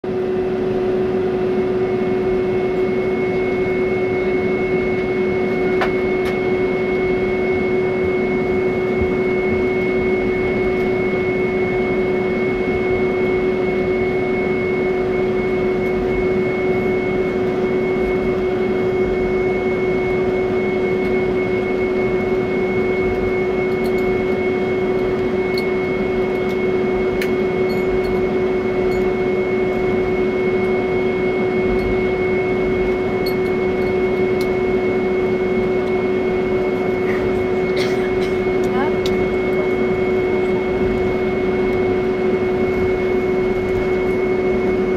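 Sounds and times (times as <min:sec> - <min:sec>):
cabin air system hum: 0:00.1 - 0:44.9
jet engines idling: 0:00.1 - 0:44.9.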